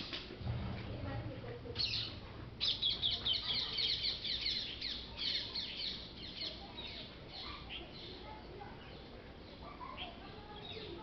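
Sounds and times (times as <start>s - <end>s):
small birds chirping: 1.7s - 11.0s.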